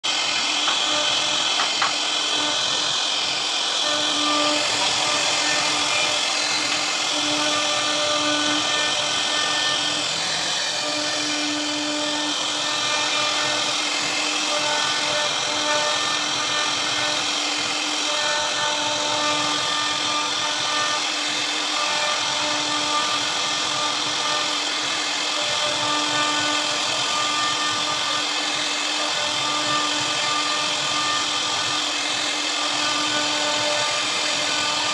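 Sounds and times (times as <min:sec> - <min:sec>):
router spindle carving wood: 0:00.0 - 0:34.9.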